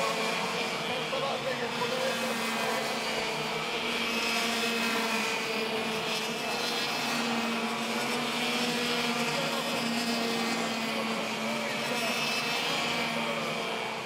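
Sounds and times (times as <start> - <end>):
go-kart engines whining: 0.0 - 14.0.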